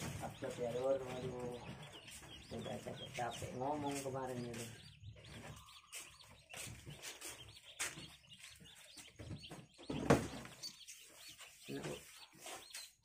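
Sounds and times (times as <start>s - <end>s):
ducklings peeping: 0.0s - 13.0s.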